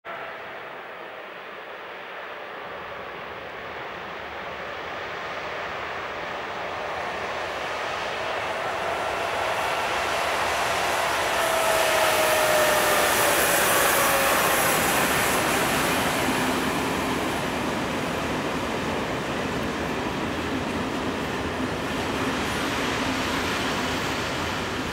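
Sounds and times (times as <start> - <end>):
electric locomotive whine: 0.1 - 24.9
freight wagons rumbling on rails: 3.9 - 24.9.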